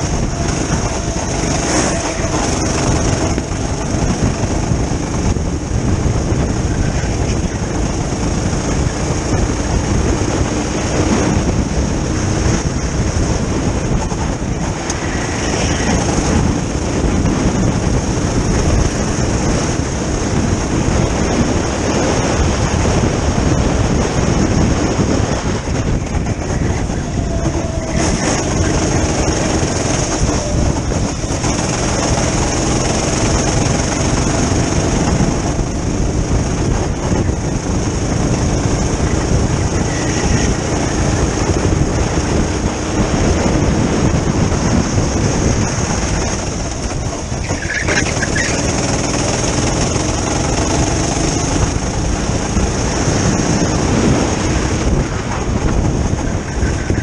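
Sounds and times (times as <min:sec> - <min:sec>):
go-kart engine running: 0:00.0 - 0:57.0
wind rush on microphone: 0:00.0 - 0:57.0.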